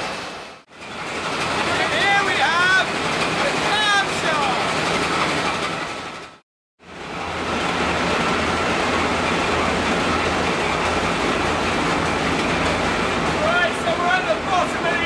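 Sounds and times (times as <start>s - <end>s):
engine room machinery din: 0.0s - 15.0s.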